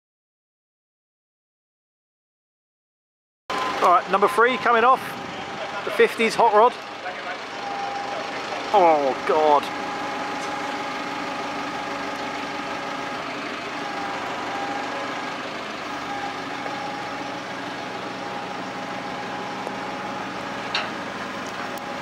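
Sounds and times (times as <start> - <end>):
hydraulic crane whine: 3.5 - 22.0
truck engine droning: 3.5 - 22.0.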